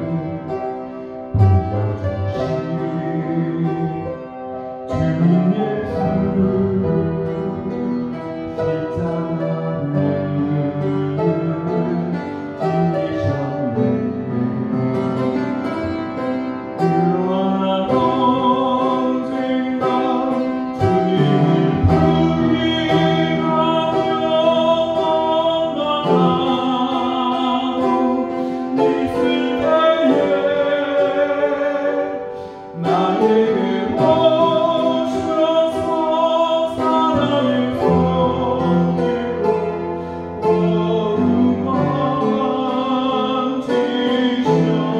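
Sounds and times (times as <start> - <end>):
man singing: 0.0 - 44.9
upright piano: 0.0 - 44.9.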